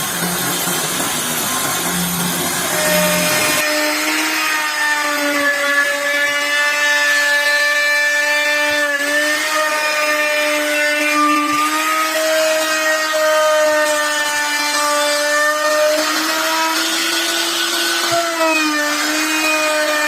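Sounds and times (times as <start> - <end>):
power tool motor whining in wood: 0.0 - 20.0.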